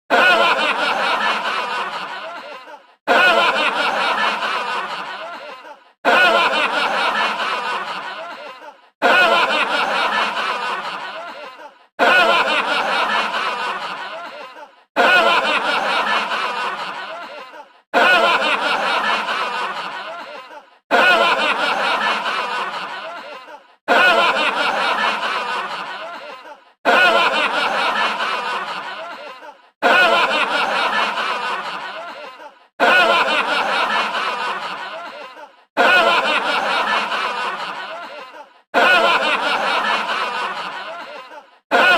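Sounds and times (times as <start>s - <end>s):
looped laughter sound effect: 0.1s - 41.9s.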